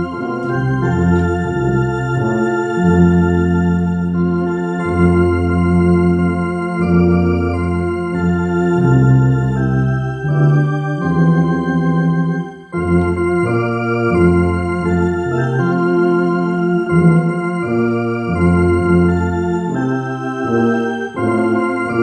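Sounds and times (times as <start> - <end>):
electronic organ playing: 0.0 - 22.0.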